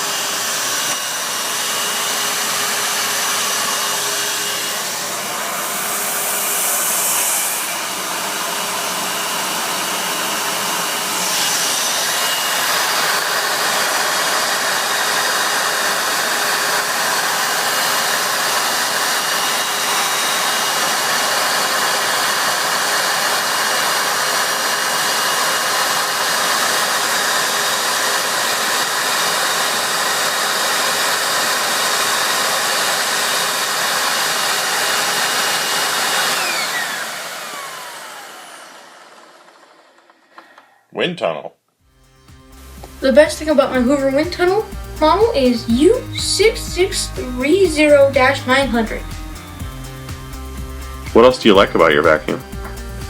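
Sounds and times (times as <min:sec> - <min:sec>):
vacuum cleaner motor whining: 0:00.0 - 0:40.6, 0:42.3 - 0:53.0.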